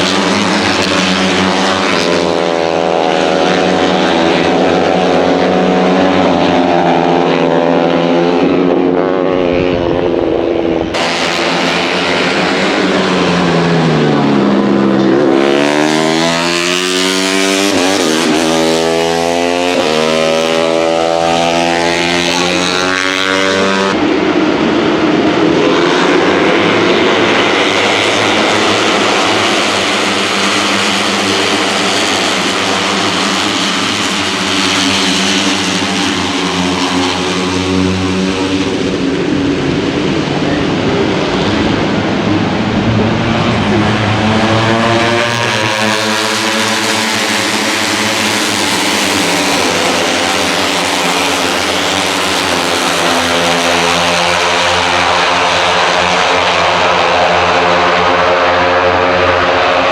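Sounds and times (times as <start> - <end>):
mixed engine noise from motorcycles: 0.0 - 59.9
racing motorcycle engine upshifting: 0.0 - 59.9.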